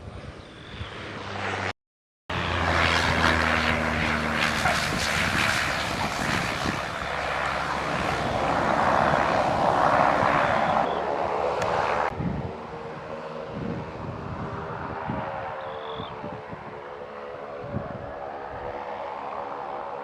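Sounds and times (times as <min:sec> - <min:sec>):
airplane engine running: 0:00.0 - 0:20.0.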